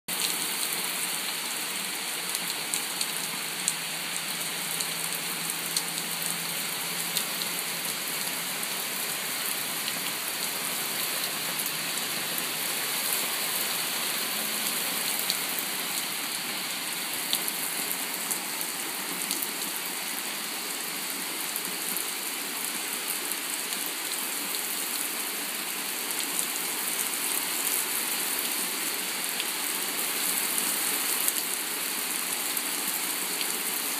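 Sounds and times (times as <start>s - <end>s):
rain on wooden deck: 0.1s - 33.9s.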